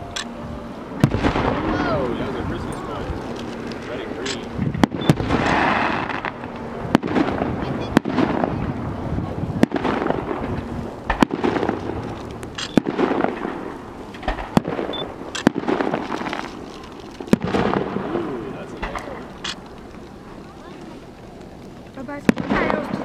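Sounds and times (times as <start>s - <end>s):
rumbling crackling haze: 0.0s - 23.0s
firework shells bursting: 2.7s - 8.6s, 9.6s - 23.0s.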